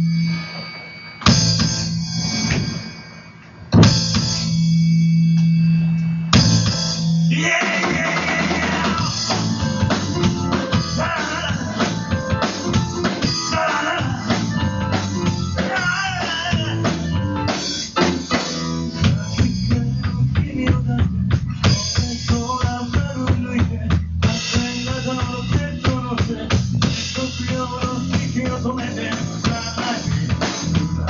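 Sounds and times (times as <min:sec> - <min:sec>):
rock band playing: 0:00.0 - 0:31.0.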